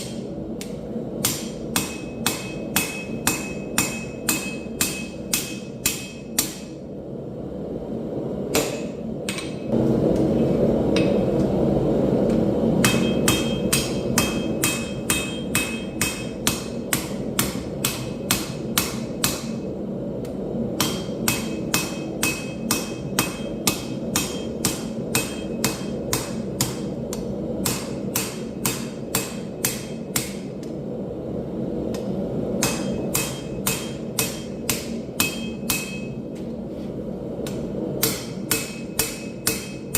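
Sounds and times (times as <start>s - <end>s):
hammer striking steel on anvil: 0.0s - 6.8s, 8.5s - 9.8s, 10.9s - 11.3s, 12.8s - 30.7s, 31.9s - 36.4s, 37.4s - 39.9s.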